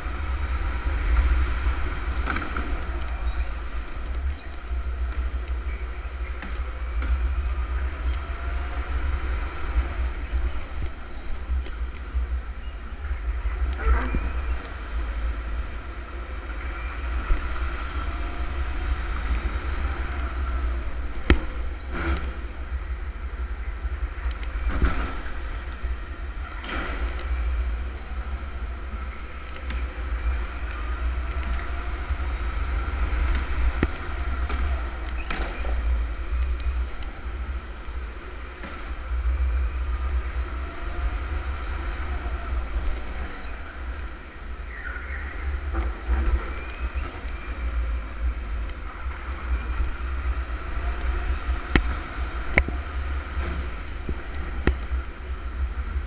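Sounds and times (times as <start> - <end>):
electric go-kart motor whine: 0.0 - 56.0
low rumble of vibration and wind: 0.0 - 56.0.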